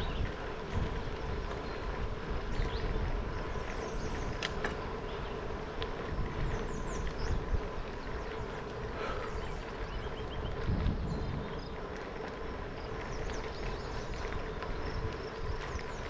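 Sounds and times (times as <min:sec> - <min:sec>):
steady bicycle riding hum: 0:00.0 - 0:16.0
wind rumble: 0:00.0 - 0:16.0.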